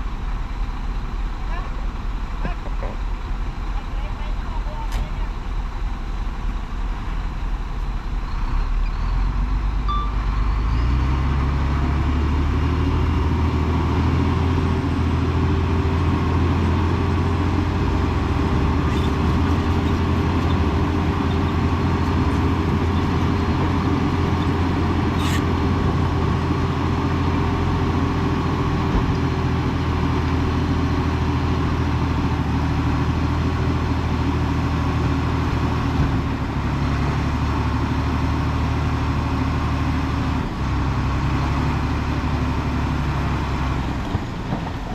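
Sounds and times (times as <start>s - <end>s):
diesel earthmoving engine running: 0.0s - 44.9s.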